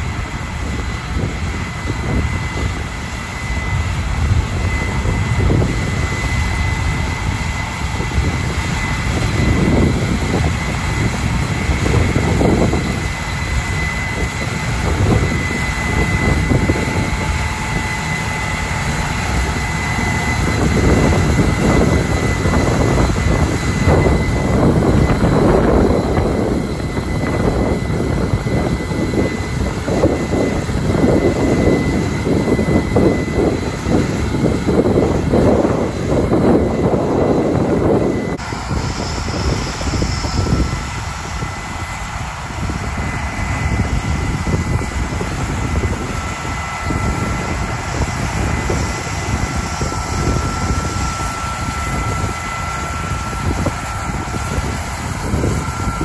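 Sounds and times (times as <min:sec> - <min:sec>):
combine harvester roar: 0:00.0 - 0:56.0
engine with thin high whine: 0:00.0 - 0:56.0.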